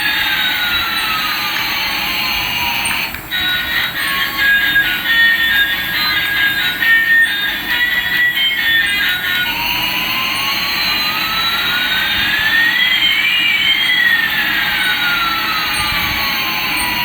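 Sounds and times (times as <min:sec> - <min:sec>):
toy jet engine sound effect: 0:00.0 - 0:17.0.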